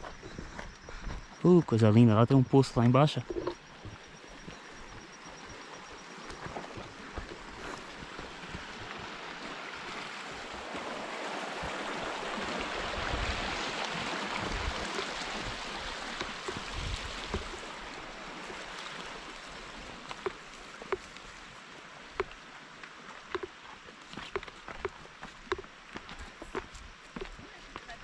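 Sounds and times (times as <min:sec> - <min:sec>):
stream water rushing: 0:04.7 - 0:27.8.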